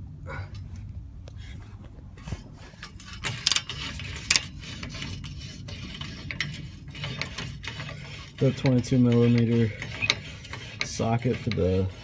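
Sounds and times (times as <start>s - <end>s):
wrench clicking and scraping metal: 2.3s - 12.0s.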